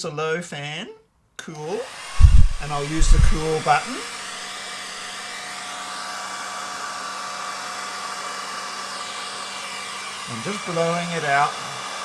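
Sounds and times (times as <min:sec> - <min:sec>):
hair dryer running: 0:01.6 - 0:12.0.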